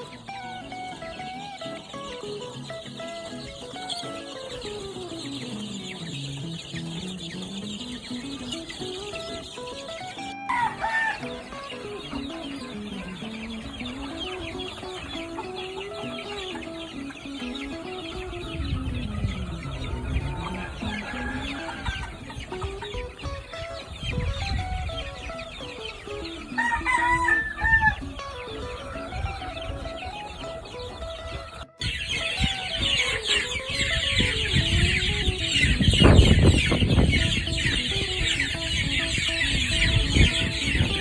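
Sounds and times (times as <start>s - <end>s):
background music: 0.0s - 41.0s
roosters crowing: 0.0s - 41.0s.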